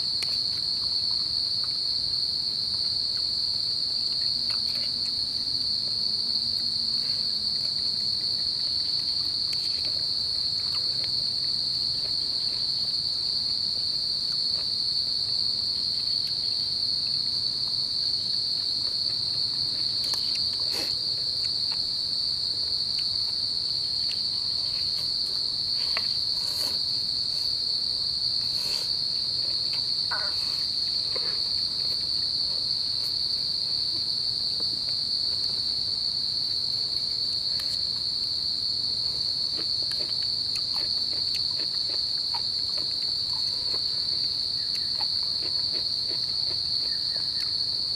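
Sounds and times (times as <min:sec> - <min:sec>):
insects trilling: 0:00.0 - 0:47.9.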